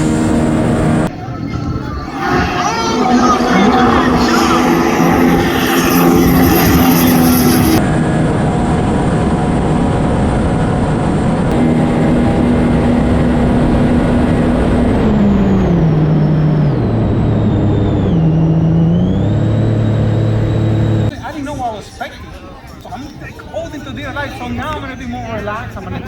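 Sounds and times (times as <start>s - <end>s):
jet ski engine whining: 0.0s - 21.1s.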